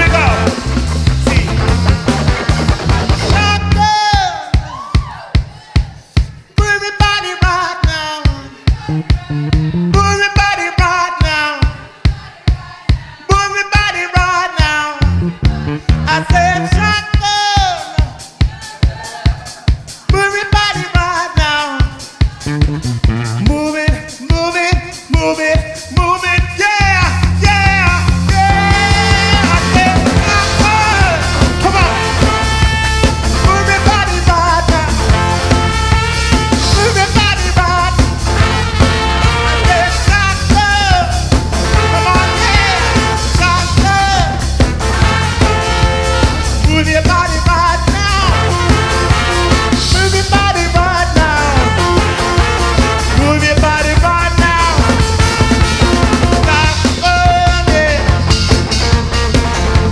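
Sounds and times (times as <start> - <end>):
live band playing dance music: 0.0 - 59.9.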